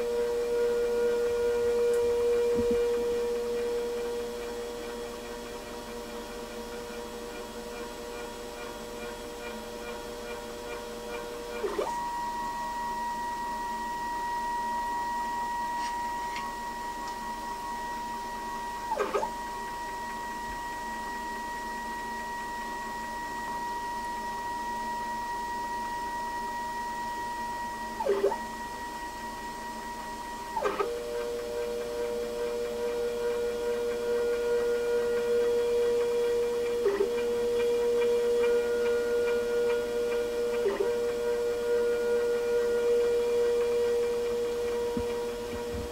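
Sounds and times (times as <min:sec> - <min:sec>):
stepper motor whine: 0:00.0 - 0:05.2, 0:11.5 - 0:45.9.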